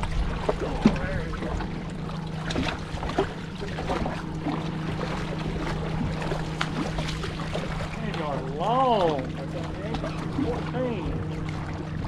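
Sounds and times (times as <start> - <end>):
boat hum: 0.0 - 12.0.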